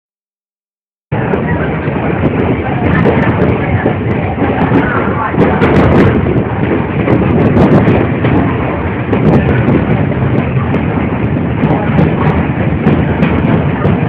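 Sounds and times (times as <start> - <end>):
train rumbling: 1.1 - 14.0.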